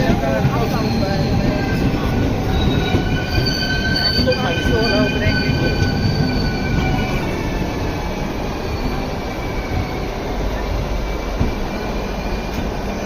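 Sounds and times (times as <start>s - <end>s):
train rumbling: 0.0s - 13.0s
wheels squealing on rails: 0.0s - 13.0s.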